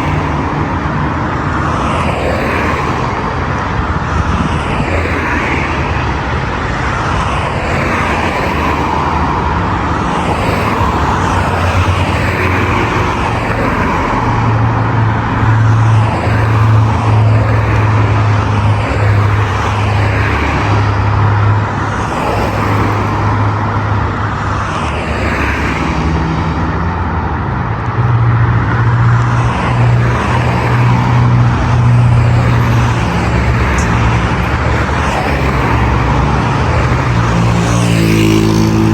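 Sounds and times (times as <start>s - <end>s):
cars passing with tyre noise: 0.0s - 38.9s
heavy vehicle engine hum: 0.0s - 38.9s.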